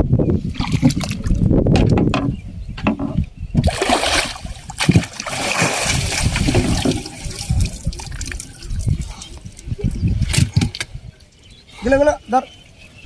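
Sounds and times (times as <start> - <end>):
water splashing and trickling: 0.4 - 2.3, 2.9 - 12.4.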